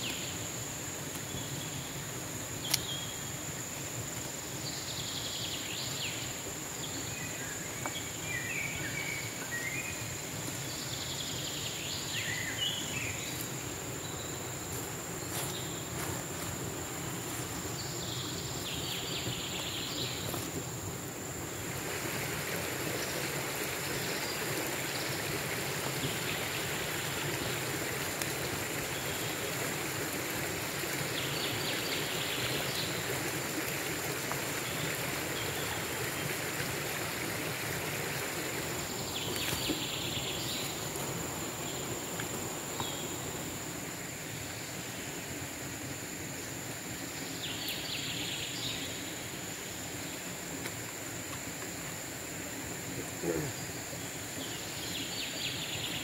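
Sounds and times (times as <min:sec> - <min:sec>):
high insect whine: 0:00.0 - 0:56.0
stream running: 0:00.0 - 0:56.0.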